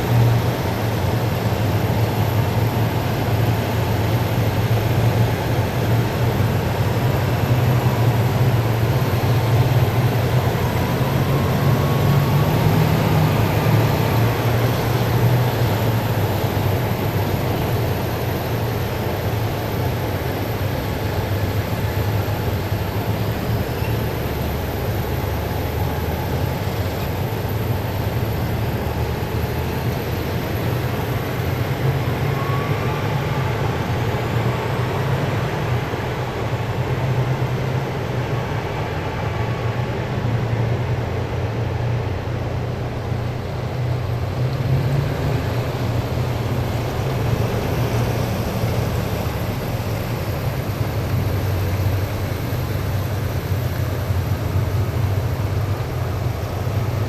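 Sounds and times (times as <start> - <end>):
heavy vehicles engine rumble: 0.0 - 57.0.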